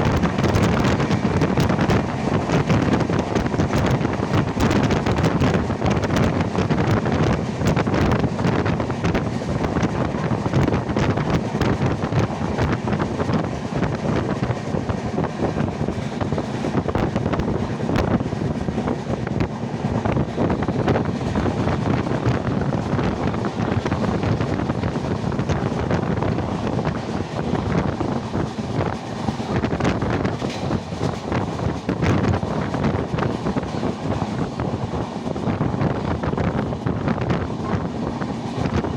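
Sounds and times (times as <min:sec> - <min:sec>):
train rumbling: 0:00.0 - 0:38.9
wind buffeting microphone: 0:00.0 - 0:38.9.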